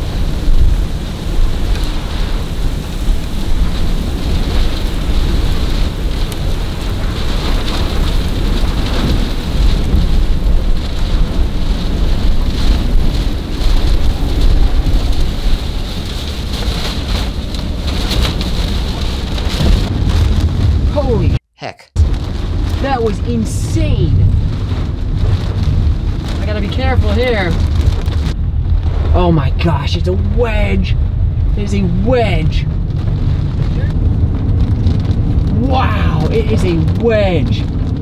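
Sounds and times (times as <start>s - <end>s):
heavy rain on car roof: 0.0s - 21.4s, 22.0s - 38.0s.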